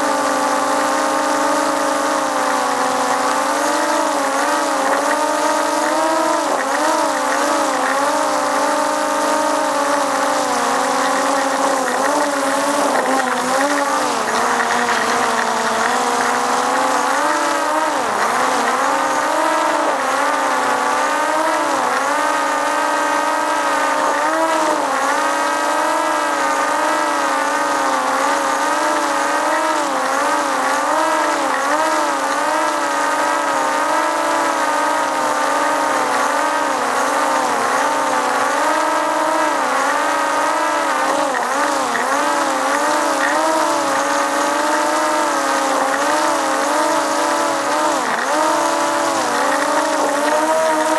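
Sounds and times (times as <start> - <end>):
drone propellers whining: 0.0 - 50.9.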